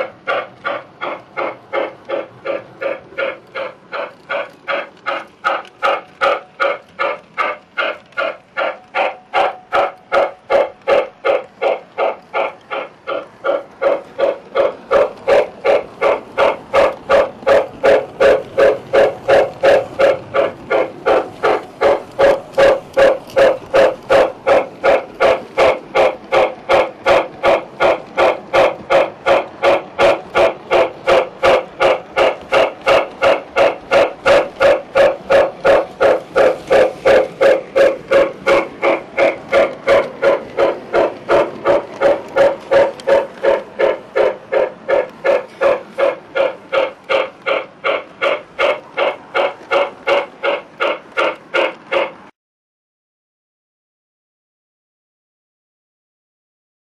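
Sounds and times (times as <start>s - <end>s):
model steam locomotive chuffing: 0.0s - 52.3s.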